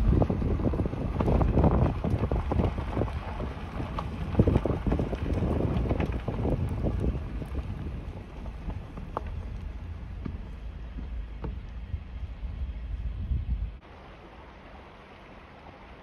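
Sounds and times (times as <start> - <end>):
wind buffeting microphone: 0.0 - 13.8
vehicle rumbling slowly: 0.0 - 16.0.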